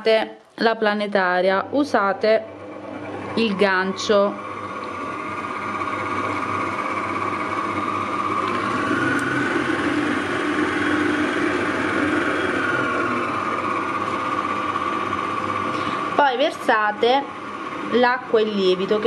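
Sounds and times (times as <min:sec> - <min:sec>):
stand mixer motor whine: 0:00.8 - 0:19.0.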